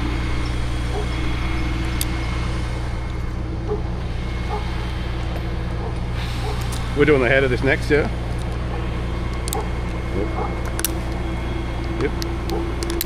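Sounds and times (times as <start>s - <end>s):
heavy engine idling: 0.0s - 13.0s.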